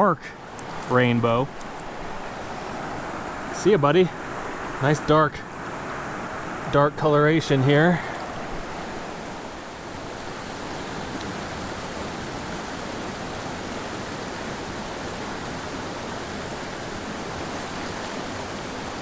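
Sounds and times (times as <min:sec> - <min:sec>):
creek flowing over rocks: 0:00.0 - 0:19.0.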